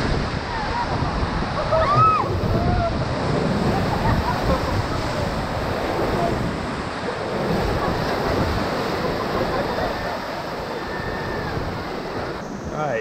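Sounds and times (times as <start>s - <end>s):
whitewater rapid rushing: 0.0s - 13.0s
wind rumbling on microphone: 0.0s - 13.0s.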